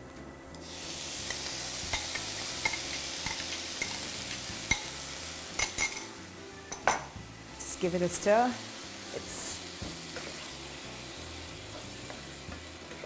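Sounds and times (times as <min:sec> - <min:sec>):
batter sizzling in a pan: 0:00.6 - 0:13.0.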